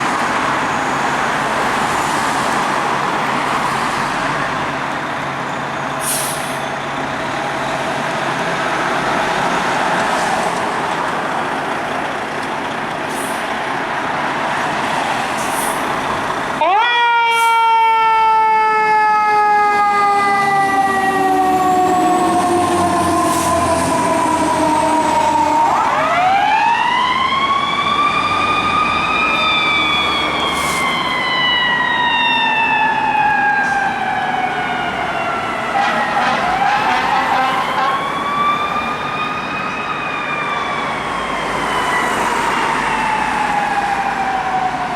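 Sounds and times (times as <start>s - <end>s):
fire engine siren wailing: 0.0s - 44.9s
traffic: 0.0s - 44.9s
truck noise: 0.0s - 44.9s.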